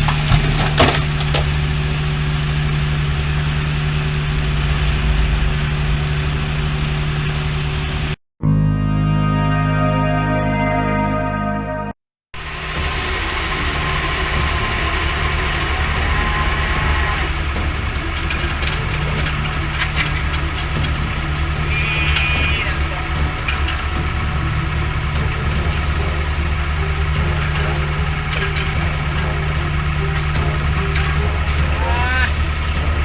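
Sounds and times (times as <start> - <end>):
diesel engine idling: 0.0 - 8.2, 12.4 - 33.0.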